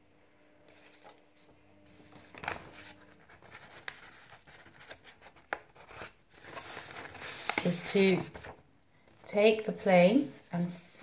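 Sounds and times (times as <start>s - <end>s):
paper rustling on table: 0.7s - 10.8s.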